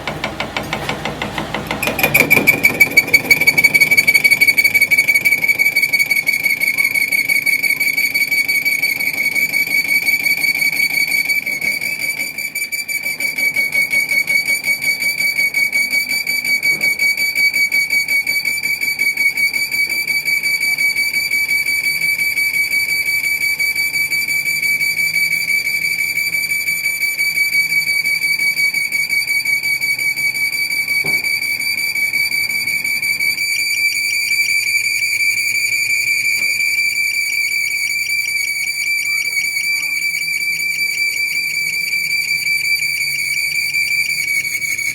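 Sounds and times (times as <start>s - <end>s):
high-pitched pulsing whine: 1.8s - 44.9s.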